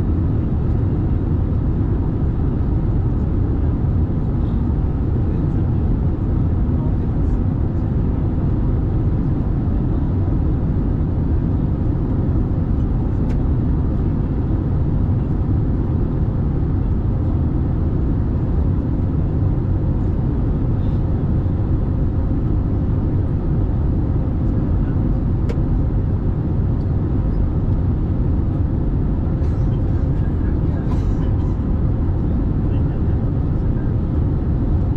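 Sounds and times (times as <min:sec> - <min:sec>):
airliner cabin engine rumble: 0:00.0 - 0:34.9.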